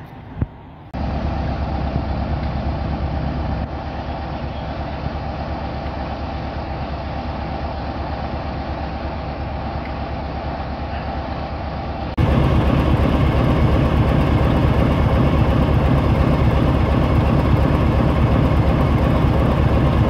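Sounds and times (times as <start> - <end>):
diesel locomotive engine idling: 0.0 - 20.0.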